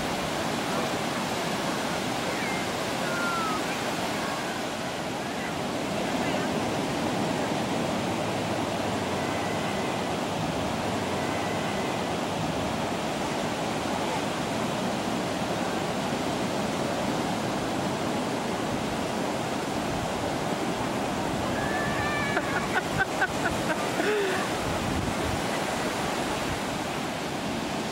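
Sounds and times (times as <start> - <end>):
ocean surf breaking: 0.0 - 27.9.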